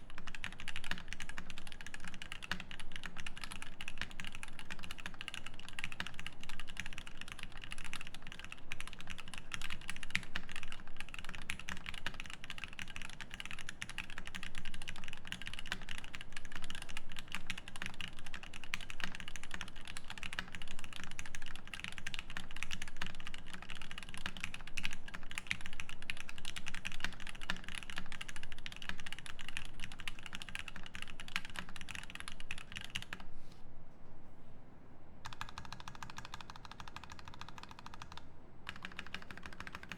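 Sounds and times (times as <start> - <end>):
fast typing on mechanical keyboard: 0.0 - 33.3, 35.2 - 39.9.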